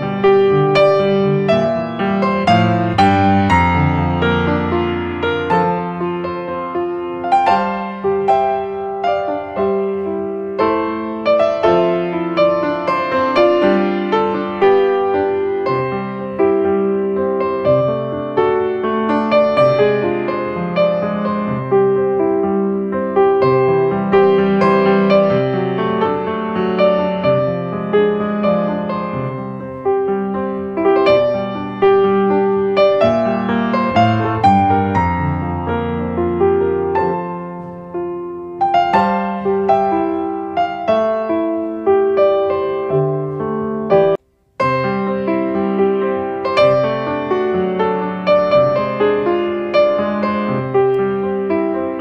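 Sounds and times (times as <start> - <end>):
gentle piano melody: 0.0 - 52.0.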